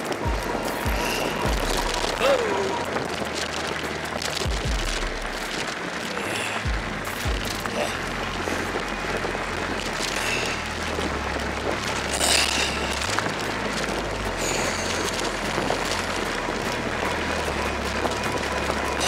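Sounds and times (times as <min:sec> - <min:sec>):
bike tyres crunching over gravel: 0:00.0 - 0:19.0
wind buffeting microphone: 0:00.0 - 0:19.0.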